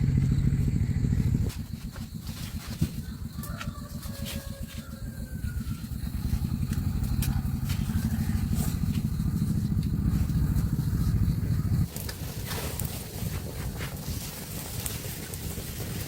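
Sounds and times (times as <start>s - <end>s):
small engine puttering: 0.0s - 16.0s.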